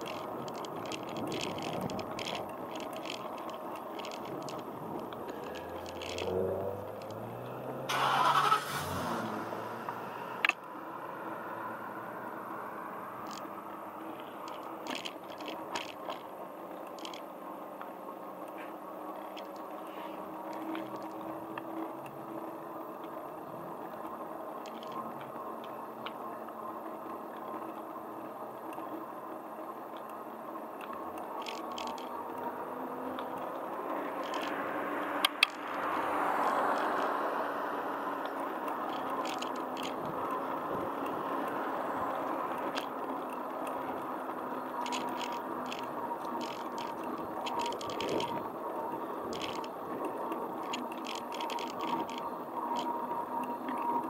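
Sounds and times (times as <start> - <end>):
light rattling and clicks: 0.0 - 8.8, 13.2 - 54.0
bicycle rolling on asphalt: 0.0 - 54.0.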